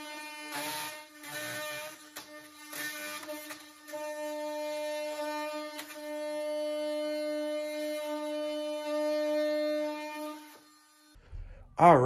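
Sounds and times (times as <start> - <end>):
oscillating multi-tool cutting wood: 0.0 - 11.2.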